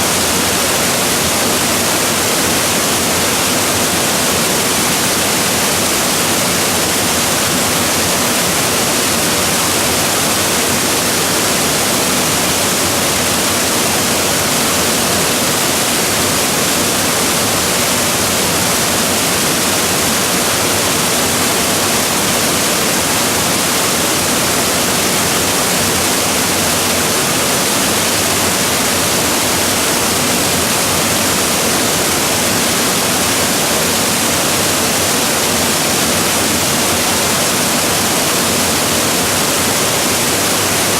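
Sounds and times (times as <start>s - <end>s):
waterfall crashing: 0.0s - 40.9s.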